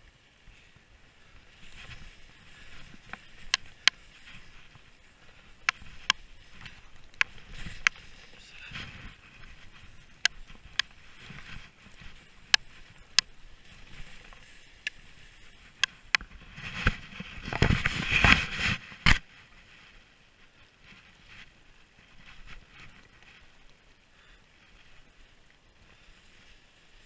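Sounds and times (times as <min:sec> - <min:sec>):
skis scraping through snow: 0:00.0 - 0:27.0.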